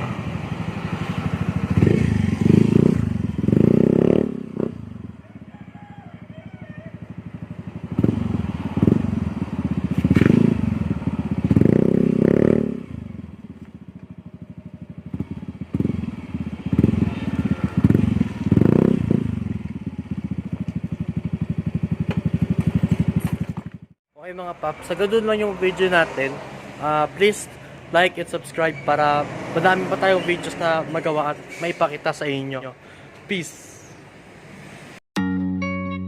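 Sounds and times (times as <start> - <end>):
motorcycle engine revving: 0.0 - 24.0, 24.7 - 31.7.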